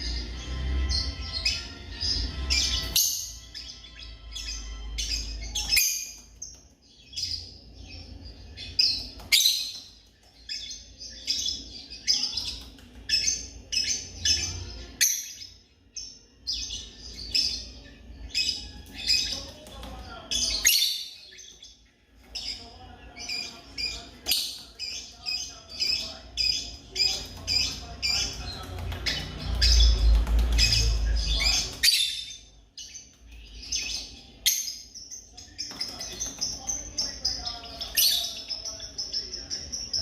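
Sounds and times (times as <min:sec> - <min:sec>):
lovebirds chirping: 0:00.0 - 0:40.0.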